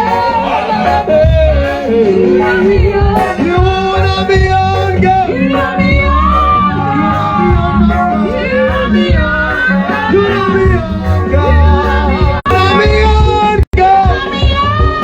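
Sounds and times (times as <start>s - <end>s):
live gospel music: 0.0s - 15.0s
person singing: 0.0s - 15.0s.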